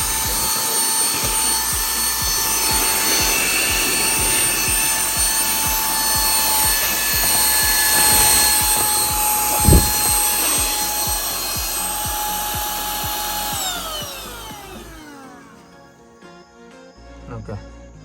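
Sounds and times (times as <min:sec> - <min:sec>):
cordless vacuum cleaner running: 0:00.0 - 0:16.5.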